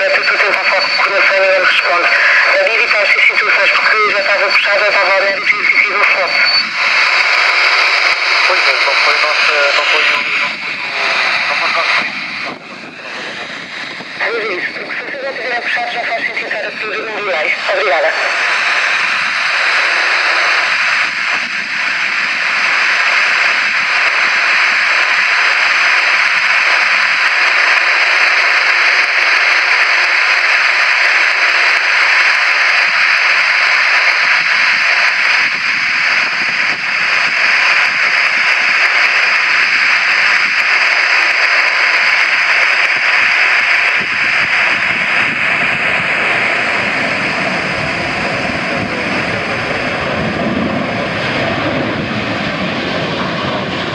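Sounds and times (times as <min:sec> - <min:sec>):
jet engine roar: 0:00.0 - 0:53.9
deep rumble: 0:05.6 - 0:15.6, 0:18.2 - 0:53.9.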